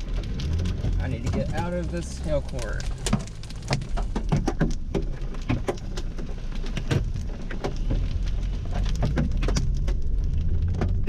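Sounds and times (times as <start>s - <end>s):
engine and road rumble: 0.0s - 11.0s
hail striking car roof: 0.0s - 11.0s.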